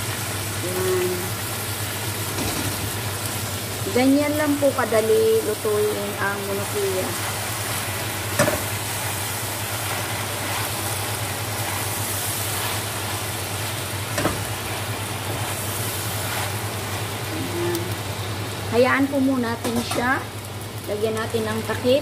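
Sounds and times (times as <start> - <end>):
chicken frying sizzle: 0.0 - 22.0.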